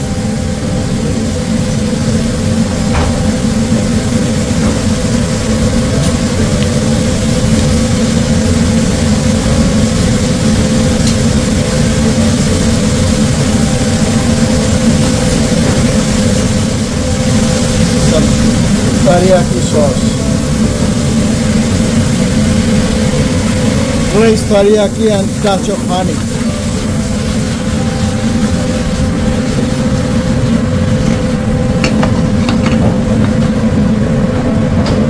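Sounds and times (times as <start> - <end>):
steady hiss: 0.0 - 34.3
kitchen ventilation rumble and hum: 0.0 - 35.0.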